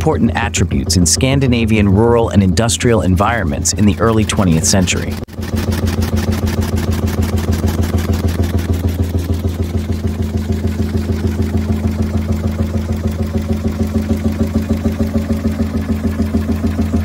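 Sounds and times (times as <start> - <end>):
engine running with rapid beat: 0.0 - 17.0.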